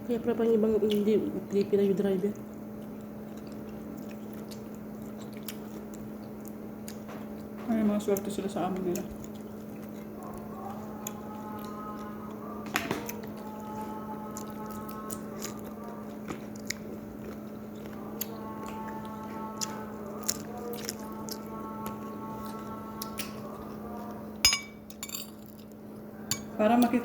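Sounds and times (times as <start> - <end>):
steady low hum: 0.0 - 27.0
people chewing: 0.5 - 27.0.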